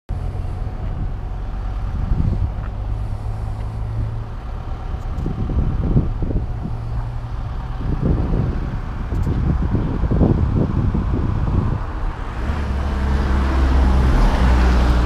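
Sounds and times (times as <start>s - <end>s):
vehicle engine humming: 0.1s - 15.0s
wind buffeting microphone: 0.1s - 15.0s.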